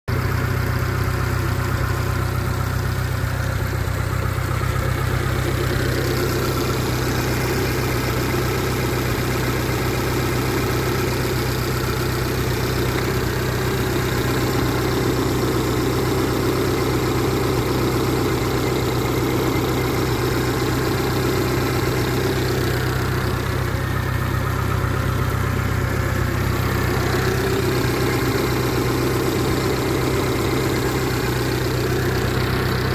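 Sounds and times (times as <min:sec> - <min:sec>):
outboard motor idling: 0:00.1 - 0:32.9.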